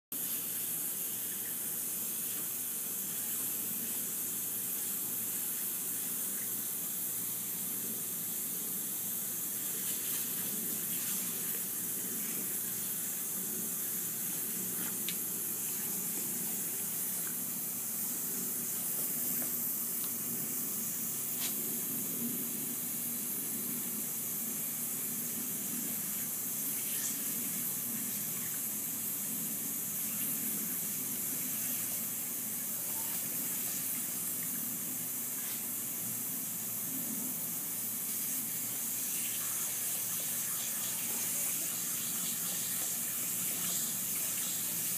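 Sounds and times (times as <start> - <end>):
sprinkler spraying with hiss: 0.2 - 44.9.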